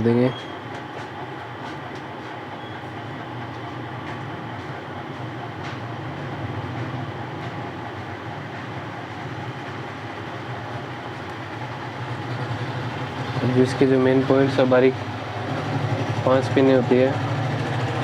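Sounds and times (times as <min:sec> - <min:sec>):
machinery hum with hiss: 0:00.0 - 0:18.0.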